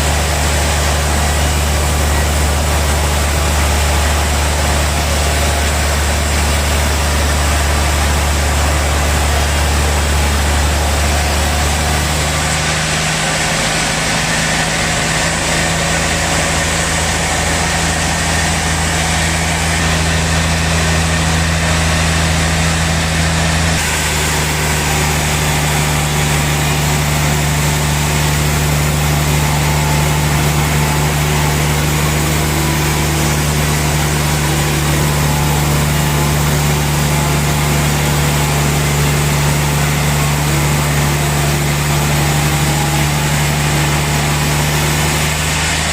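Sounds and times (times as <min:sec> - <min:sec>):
sawmill machinery humming: 0:00.0 - 0:45.9.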